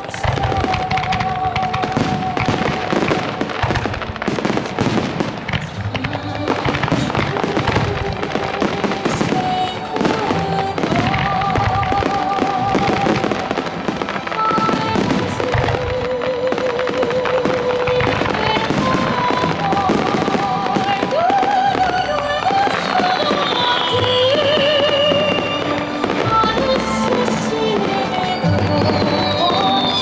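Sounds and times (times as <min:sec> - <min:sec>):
fireworks bursting: 0:00.0 - 0:30.0
fireworks crackling: 0:00.0 - 0:30.0.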